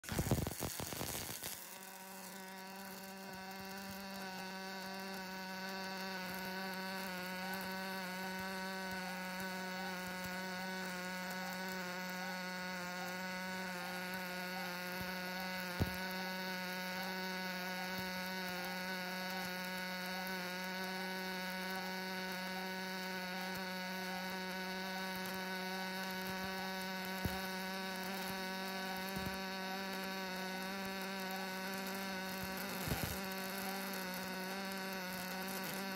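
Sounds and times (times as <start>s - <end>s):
welding arc buzzing: 0.0s - 35.9s.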